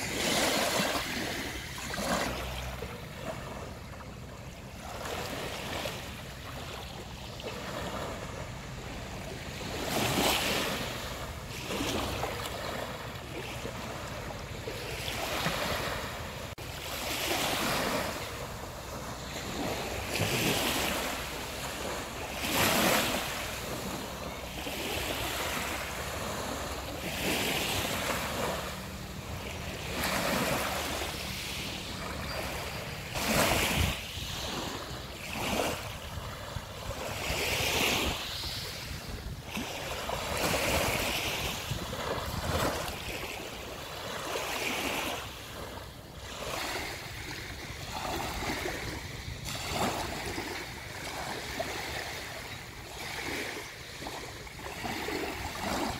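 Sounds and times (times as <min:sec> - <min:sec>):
small waves breaking on beach: 0:00.0 - 0:55.9.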